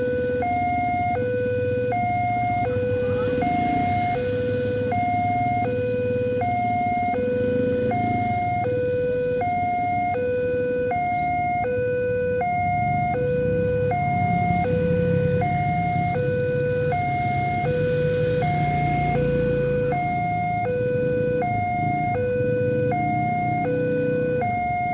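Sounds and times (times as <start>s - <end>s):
two-tone level-crossing siren: 0.0s - 24.9s.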